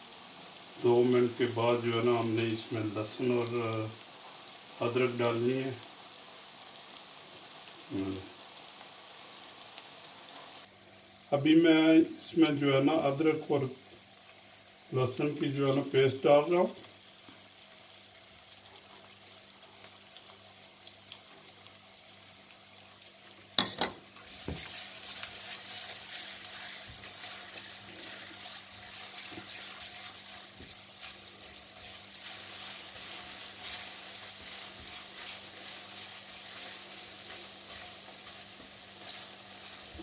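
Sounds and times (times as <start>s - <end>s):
onions frying in hot oil: 0.0s - 40.0s.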